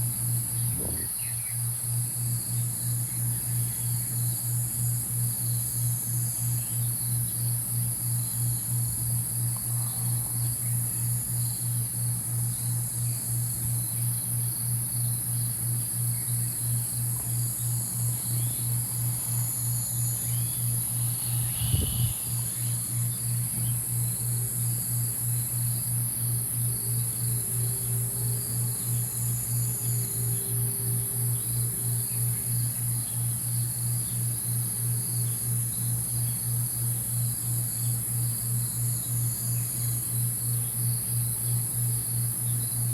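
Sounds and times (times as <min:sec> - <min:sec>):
insects chirring: 0:00.0 - 0:42.9
low pulsing hum: 0:00.0 - 0:42.9.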